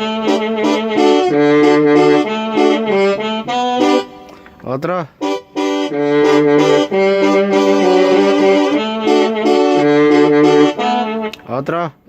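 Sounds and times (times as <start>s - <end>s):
synthesizer brass chords: 0.0s - 4.3s, 5.2s - 11.4s.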